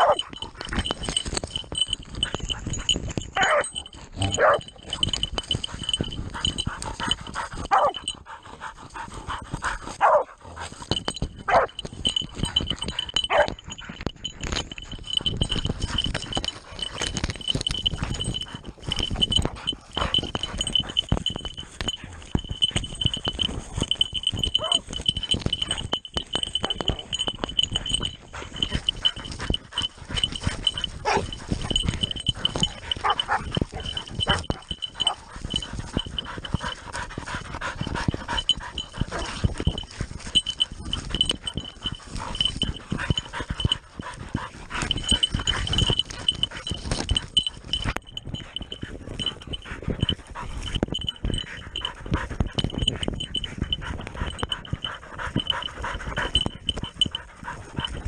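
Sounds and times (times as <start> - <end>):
dog panting: 0.0 - 58.0
high bell-like ringing: 0.0 - 58.0.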